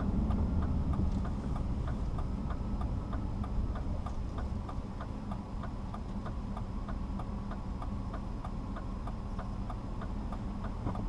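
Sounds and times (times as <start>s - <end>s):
car engine hum and road noise: 0.0s - 11.0s
turn signal clicking: 0.0s - 11.0s.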